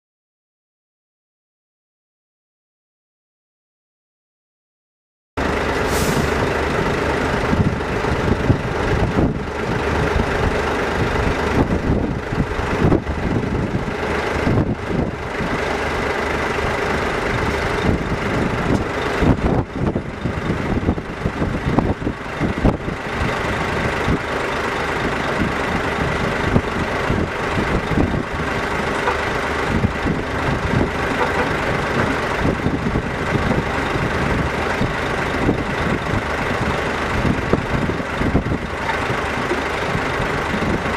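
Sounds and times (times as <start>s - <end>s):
heavy diesel machinery running: 5.4s - 40.9s.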